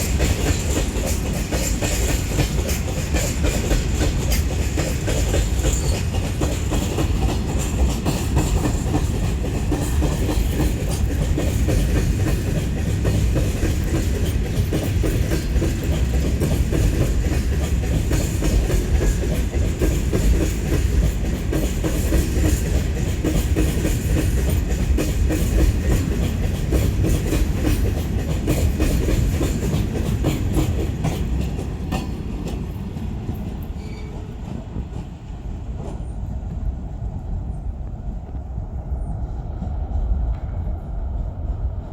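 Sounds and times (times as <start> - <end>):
train wheels clattering over rail joints: 0.0 - 36.7
heavy train rumble: 0.0 - 41.9.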